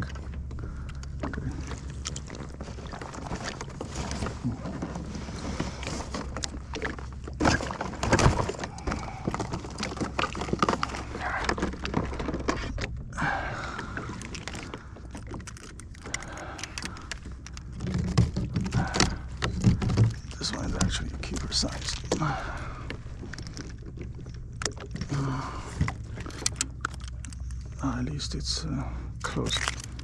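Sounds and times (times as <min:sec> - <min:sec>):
gear knocking and rattling: 0:00.0 - 0:28.6, 0:29.2 - 0:30.0.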